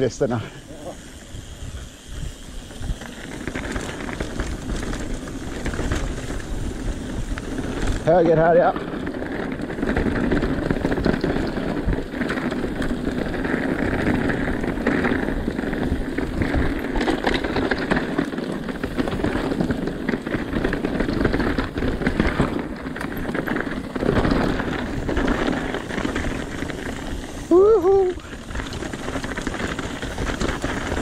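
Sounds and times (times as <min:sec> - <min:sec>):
bike knocking and rattling: 0:00.0 - 0:31.0
bike tyres crunching over stones: 0:00.0 - 0:31.0
steady rush of noise: 0:00.0 - 0:31.0.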